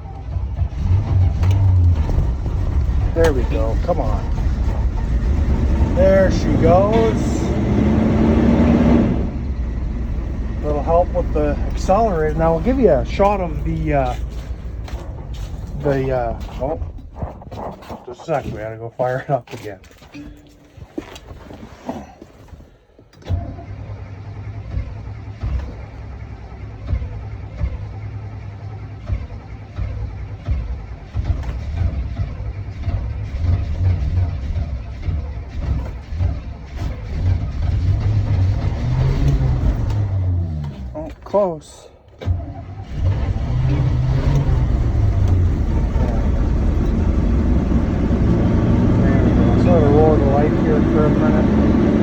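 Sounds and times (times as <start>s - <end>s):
engine cranking: 0.0s - 52.0s
engine running with low drone: 0.0s - 52.0s.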